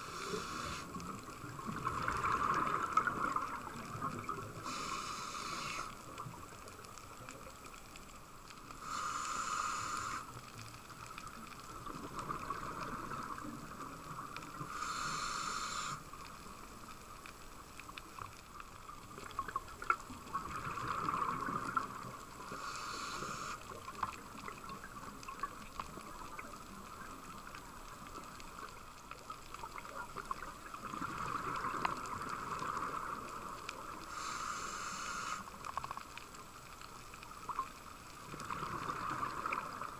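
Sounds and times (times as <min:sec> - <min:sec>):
exhaled bubbles underwater: 0:00.0 - 0:07.8, 0:10.9 - 0:16.9, 0:18.8 - 0:36.2, 0:37.2 - 0:39.9.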